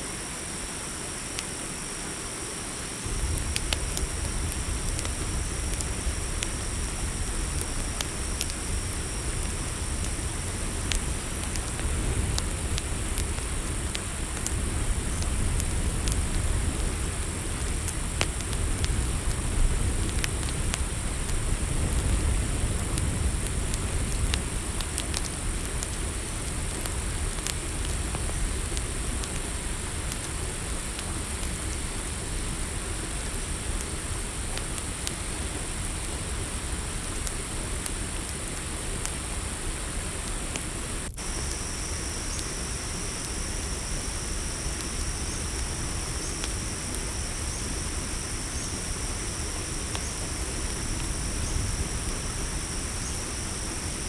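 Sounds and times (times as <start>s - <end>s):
campfire crackling: 0.0s - 54.0s
crickets chirping: 0.0s - 54.0s
low insect trill: 0.0s - 54.0s.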